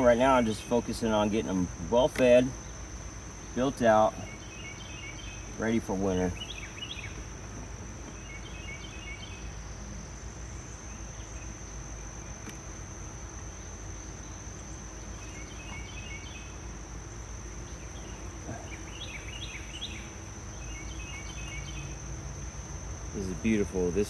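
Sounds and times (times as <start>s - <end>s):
insects trilling: 0.0s - 24.0s
rapid insect chirping: 0.0s - 24.0s.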